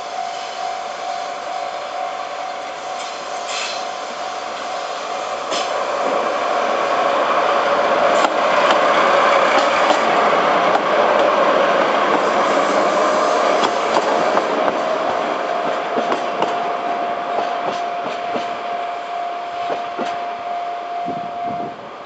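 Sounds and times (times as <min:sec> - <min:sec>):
train approaching: 0:00.0 - 0:22.0.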